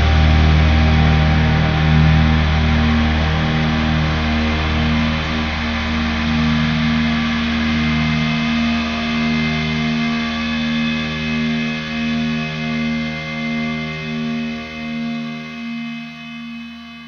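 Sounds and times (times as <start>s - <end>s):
effects-laden electric guitar drone: 0.0s - 17.0s.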